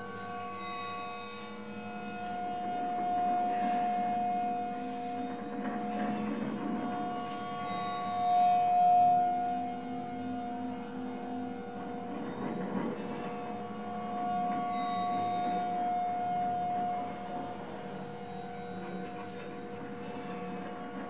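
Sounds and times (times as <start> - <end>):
drone music held tones: 0.0 - 21.0.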